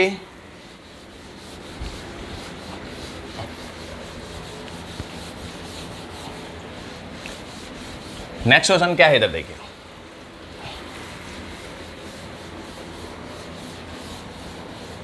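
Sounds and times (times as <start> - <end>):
duster rubbing on chalkboard: 0.0 - 15.0.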